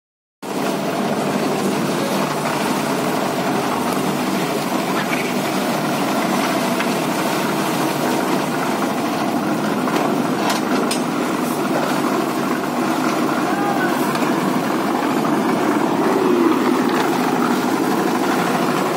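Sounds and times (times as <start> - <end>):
concrete mixer running: 0.4 - 18.9.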